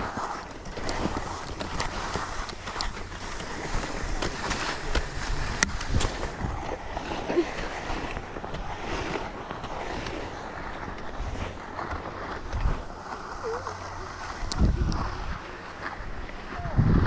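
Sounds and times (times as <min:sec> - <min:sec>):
wind noise on microphone: 0:00.0 - 0:10.3, 0:12.4 - 0:17.0
skis scraping over snow: 0:00.0 - 0:17.0.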